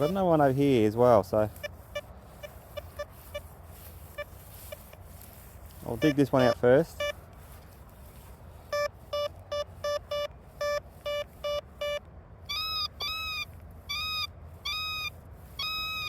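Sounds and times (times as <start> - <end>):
metal detector beeping: 0.0 - 0.8, 1.4 - 5.1, 5.8 - 7.2, 8.7 - 16.0.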